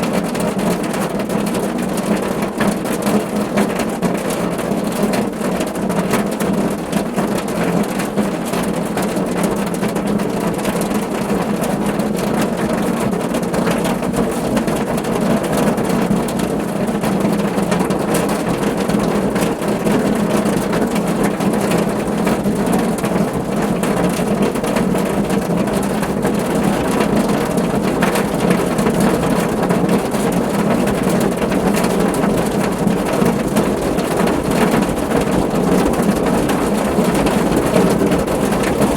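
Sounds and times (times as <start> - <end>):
rain on a car roof: 0.0 - 38.9.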